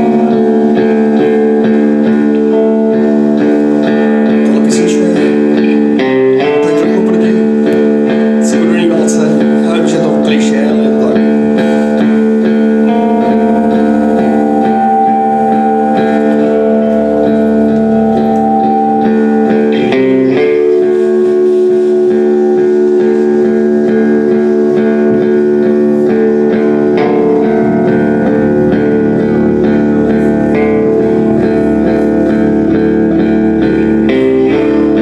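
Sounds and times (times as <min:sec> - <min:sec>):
loud guitar chords: 0:00.0 - 0:35.0.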